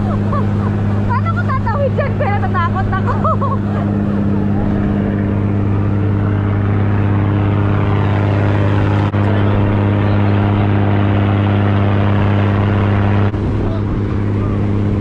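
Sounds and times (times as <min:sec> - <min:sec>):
boat engine droning: 0:00.0 - 0:15.0
rushing wind: 0:00.0 - 0:15.0.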